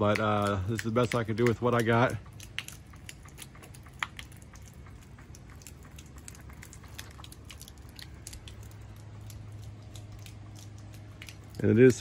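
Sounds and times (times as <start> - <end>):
pump valves clicking and tapping: 0.0 - 12.0
steady low hum: 0.0 - 12.0.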